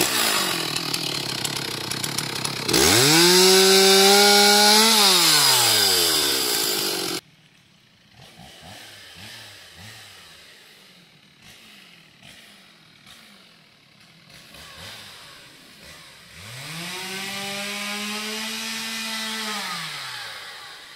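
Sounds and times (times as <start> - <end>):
chainsaw revving: 0.0 - 7.2, 8.0 - 20.9.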